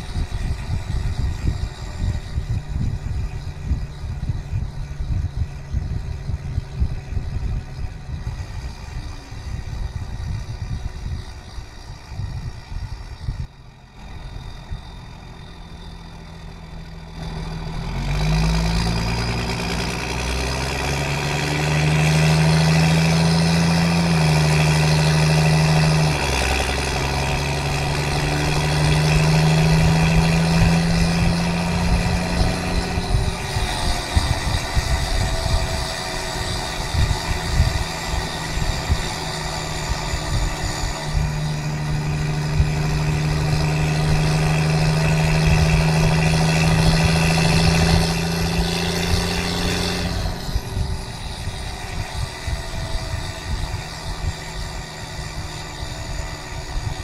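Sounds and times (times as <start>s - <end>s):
diesel truck exhaust: 0.0s - 57.0s.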